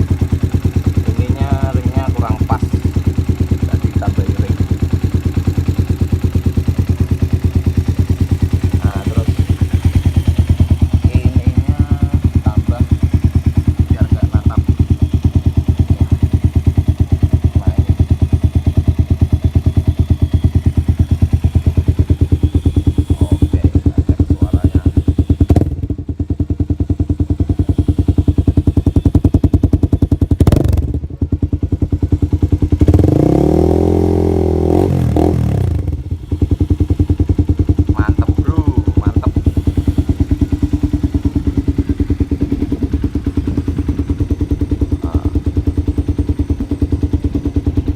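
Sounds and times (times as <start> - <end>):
motorcycle engine idling: 0.0 - 47.9
motorcycle engine revving: 0.0 - 47.9.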